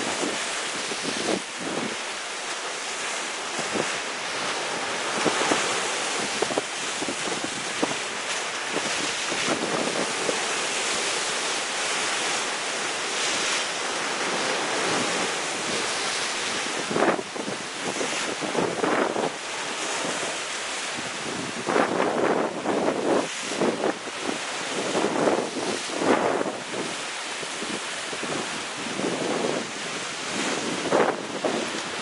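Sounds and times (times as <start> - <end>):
sea waves breaking on rocks: 0.0 - 32.0.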